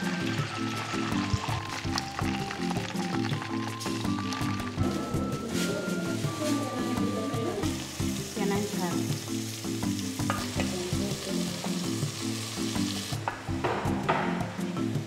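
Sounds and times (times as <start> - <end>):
vegetables sizzling in hot oil: 0.0 - 13.6
background music: 0.0 - 15.0.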